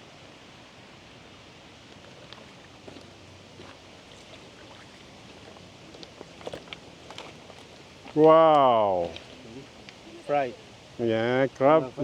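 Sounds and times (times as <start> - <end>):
water flowing: 1.2 - 11.0.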